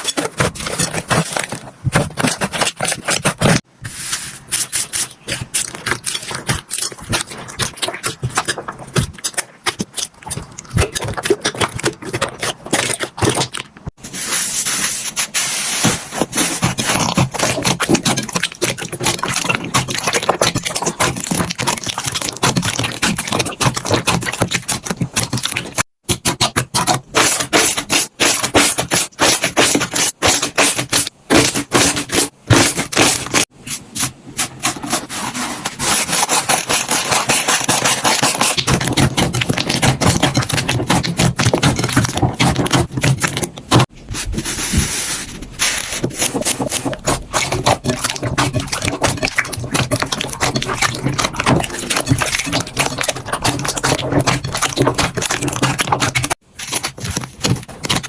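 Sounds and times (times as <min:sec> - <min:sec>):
slime squelching and popping: 0:04.4 - 0:14.0, 0:16.2 - 0:33.5, 0:35.9 - 0:43.9, 0:45.6 - 0:58.0.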